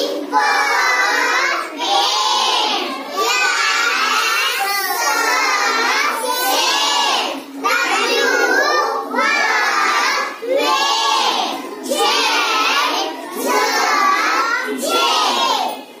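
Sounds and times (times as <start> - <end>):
children chanting in unison: 0.0 - 16.0.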